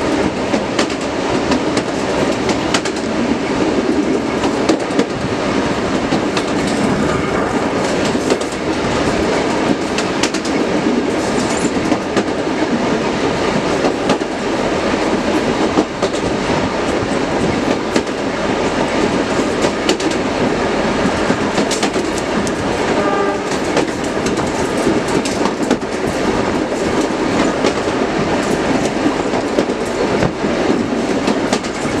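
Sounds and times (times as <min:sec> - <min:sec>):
wheels clacking over rail: 0:00.0 - 0:05.3, 0:05.9 - 0:32.0
locomotive rumble: 0:00.0 - 0:32.0.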